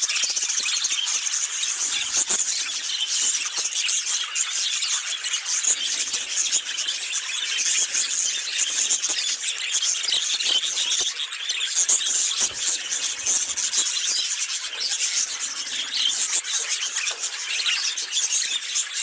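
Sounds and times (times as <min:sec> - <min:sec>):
budgerigars chattering: 0:00.1 - 0:19.0.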